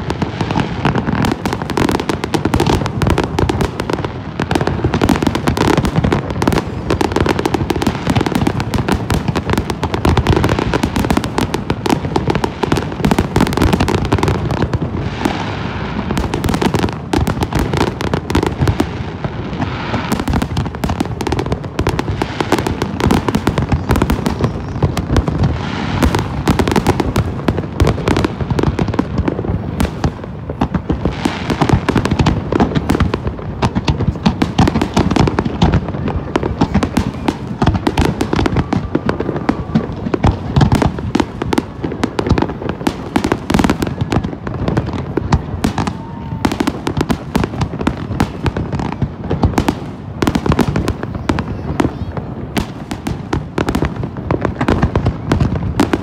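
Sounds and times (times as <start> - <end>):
fireworks barrage of bangs: 0.0 - 56.0.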